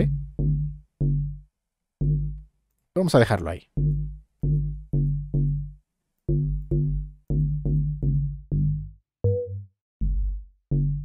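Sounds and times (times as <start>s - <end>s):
synth bass notes: 0.0s - 2.5s, 3.7s - 11.0s.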